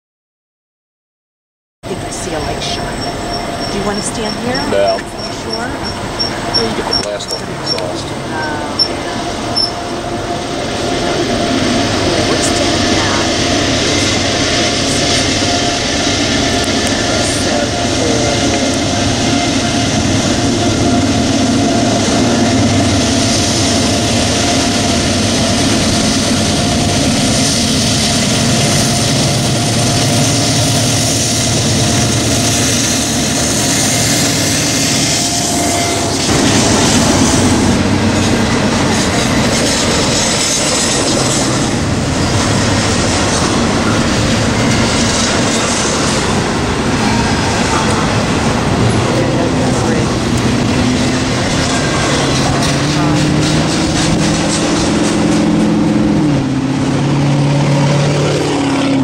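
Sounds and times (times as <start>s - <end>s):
diesel locomotives running: 1.8s - 59.0s
freight cars rolling on steel wheels: 1.9s - 59.0s.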